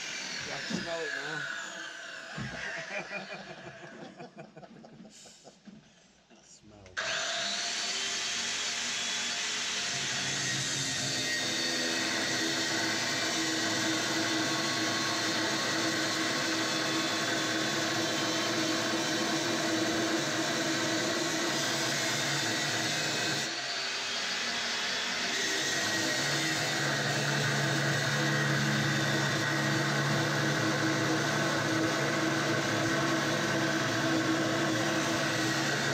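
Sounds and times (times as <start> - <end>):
angle grinder grinding metal: 0.0 - 3.4, 7.0 - 35.9.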